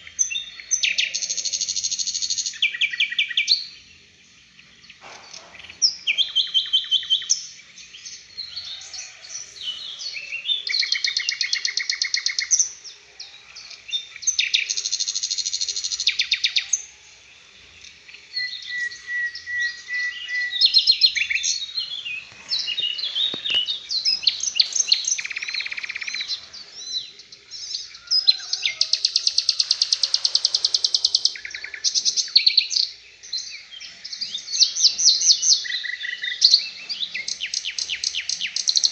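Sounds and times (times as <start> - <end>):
songbird singing fast trills: 0.0 - 38.9.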